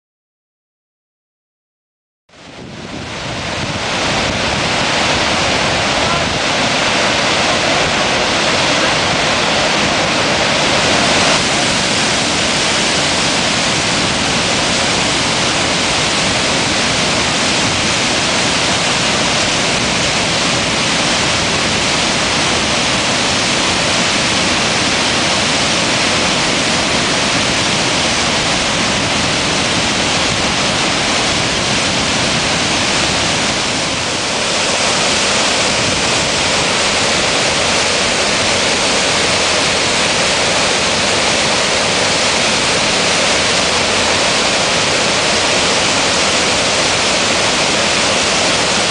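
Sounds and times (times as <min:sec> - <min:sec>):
waterfall rushing: 0:02.4 - 0:48.9.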